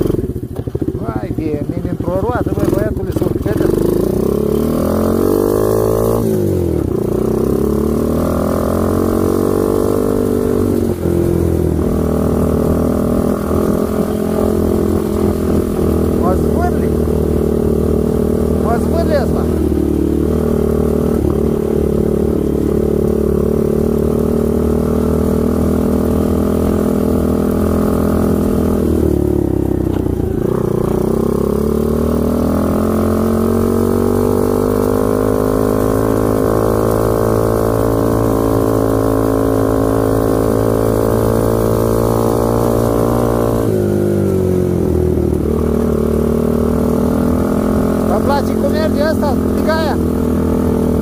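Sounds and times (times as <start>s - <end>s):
atv engine revving: 0.0s - 51.0s.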